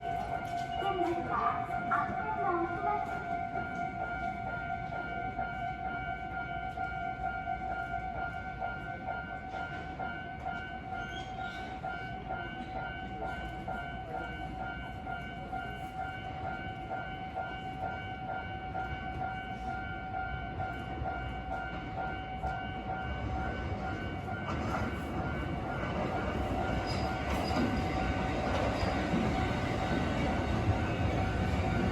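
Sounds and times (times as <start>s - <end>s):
train rumble: 0.0s - 31.9s.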